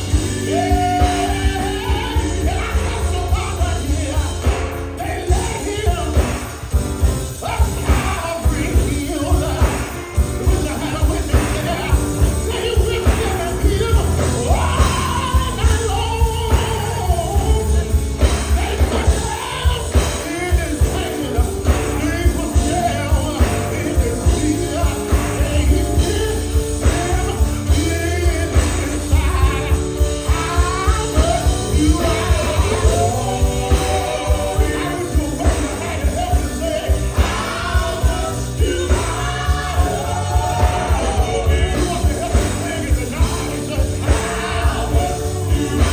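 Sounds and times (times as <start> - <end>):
gospel band playing: 0.0 - 45.9
people singing: 0.0 - 45.9.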